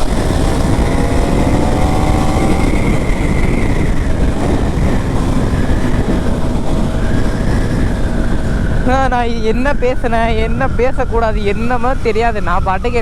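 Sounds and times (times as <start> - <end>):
motorcycle engine running: 0.0 - 10.4
road and wind rumble: 0.0 - 13.0.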